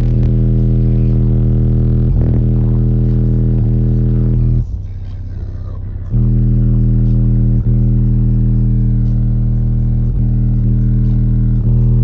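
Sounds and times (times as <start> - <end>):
bass-heavy music from car speakers: 0.0 - 12.0
deep bass note: 0.0 - 12.0.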